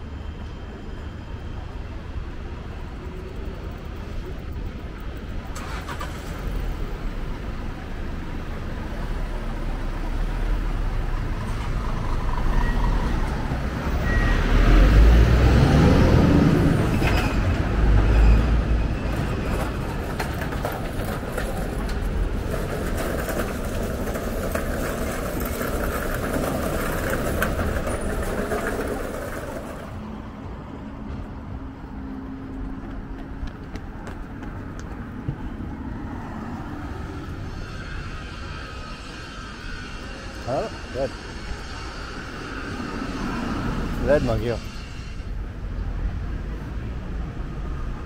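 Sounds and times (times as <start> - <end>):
electric train rumbling: 0.0 - 48.0.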